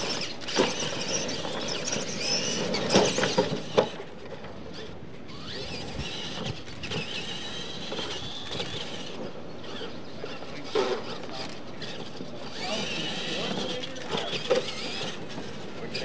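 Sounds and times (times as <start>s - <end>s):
toy truck electric motors whining: 0.0s - 16.0s.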